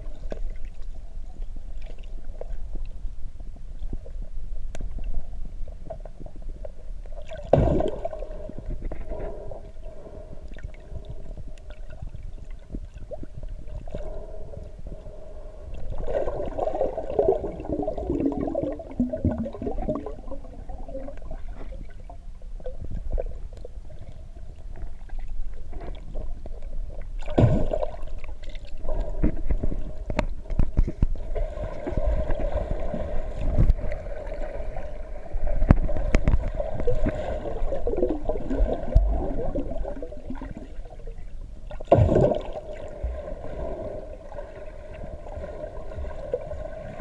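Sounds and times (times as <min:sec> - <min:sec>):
underwater rumble of moving water: 0:00.0 - 0:47.0
water bubbling and gurgling: 0:00.0 - 0:47.0.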